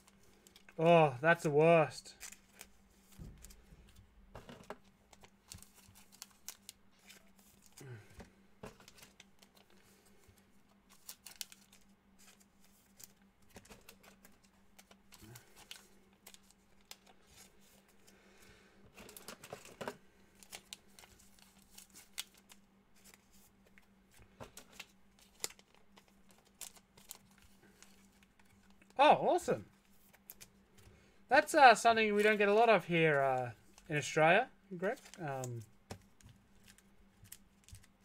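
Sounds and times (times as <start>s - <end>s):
card handling clicks and crinkles: 0.0s - 0.8s, 2.1s - 29.0s, 29.6s - 34.1s, 34.8s - 38.0s
faint steady hum: 0.0s - 38.0s.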